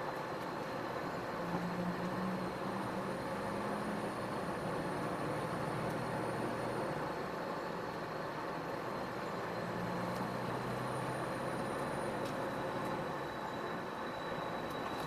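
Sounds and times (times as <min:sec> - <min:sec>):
faint high whine: 0:00.0 - 0:15.0
road noise: 0:00.0 - 0:15.0.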